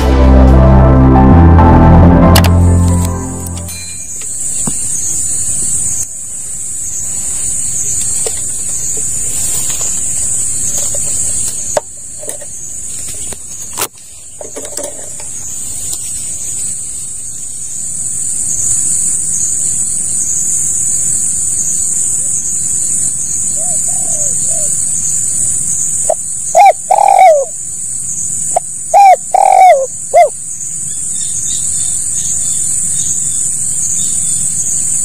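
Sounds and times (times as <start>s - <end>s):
high-pitched insect chorus: 3.7s - 35.0s.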